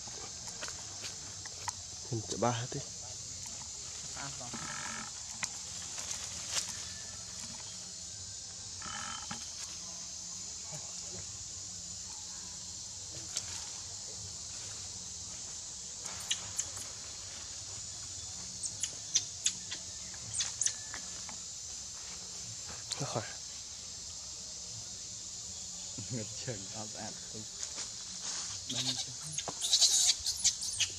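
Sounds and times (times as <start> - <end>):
high-pitched insect chorus: 0.0 - 30.9.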